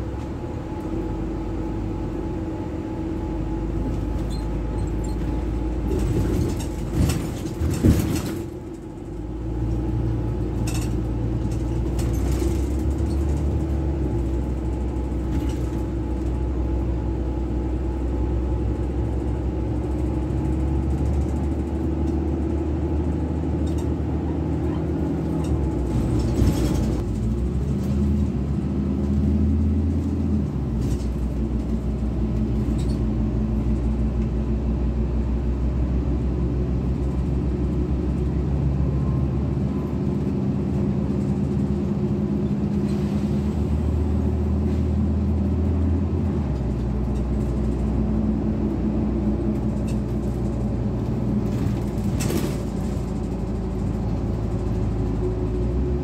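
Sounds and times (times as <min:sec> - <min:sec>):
bus drive and road noise: 0:00.0 - 0:56.0.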